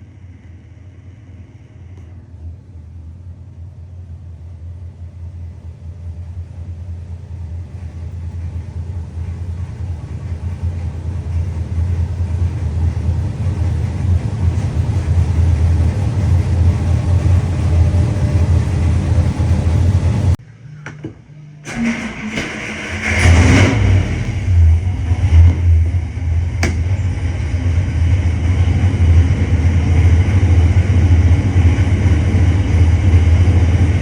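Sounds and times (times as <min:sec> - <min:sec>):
engine rumbling under load: 0:00.0 - 0:34.0.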